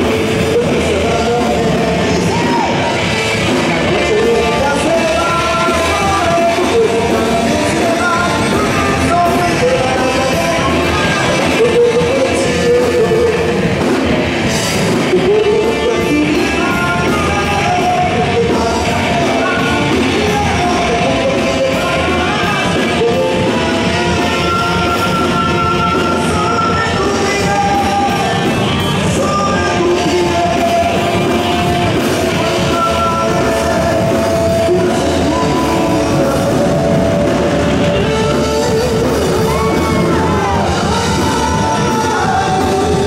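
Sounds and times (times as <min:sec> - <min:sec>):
drums: 0:00.0 - 0:43.0
electric guitar: 0:00.0 - 0:43.0
man singing into a microphone: 0:00.0 - 0:43.0.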